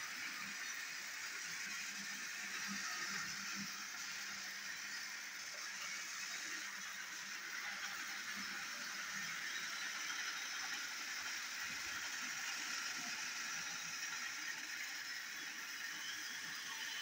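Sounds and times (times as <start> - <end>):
toy train motor whirring: 0.0 - 17.0
wheels rattling on plastic track: 0.0 - 17.0.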